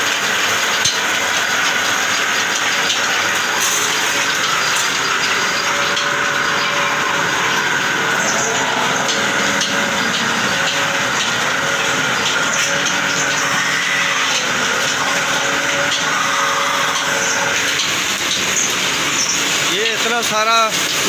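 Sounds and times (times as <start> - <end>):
lathe whirring: 0.0 - 21.0.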